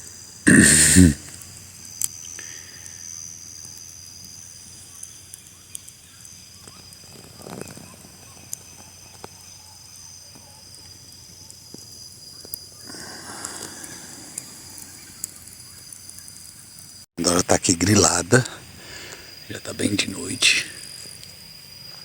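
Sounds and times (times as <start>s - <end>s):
campfire crackling: 0.0s - 22.0s
night insects chorus: 0.0s - 22.0s.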